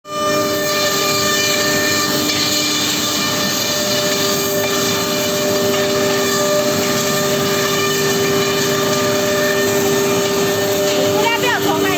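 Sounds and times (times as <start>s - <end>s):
router spindle whining: 0.1s - 11.9s.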